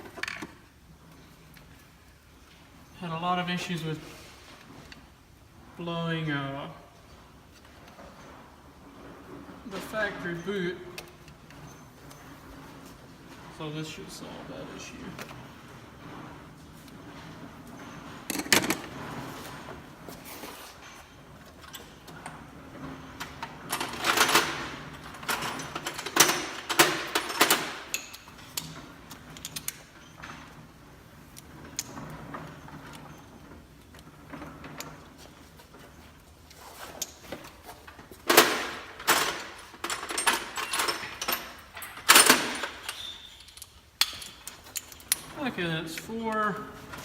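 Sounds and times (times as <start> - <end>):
tools clinking and rattling: 7.1 - 47.0.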